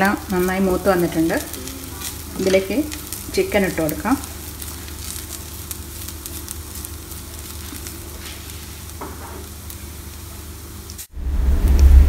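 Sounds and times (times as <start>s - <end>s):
spices sizzling in oil: 0.0s - 11.7s
light crackles: 0.0s - 12.0s.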